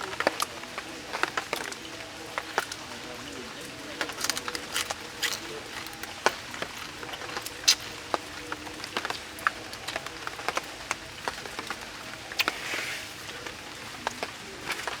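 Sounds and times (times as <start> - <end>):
chewing and mouth noises: 0.1 - 15.0.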